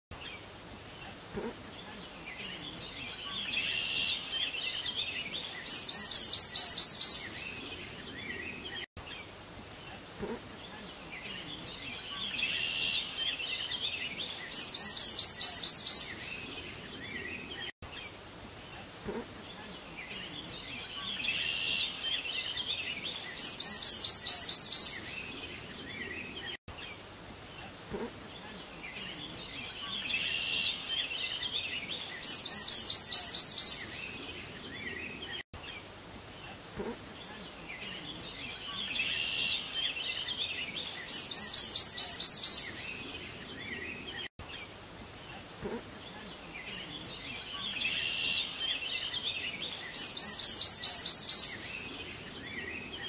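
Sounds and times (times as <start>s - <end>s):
songbird twittering and trilling: 2.4s - 10.0s, 11.2s - 18.9s, 20.0s - 26.6s, 28.8s - 36.6s, 37.8s - 45.4s, 46.6s - 53.0s.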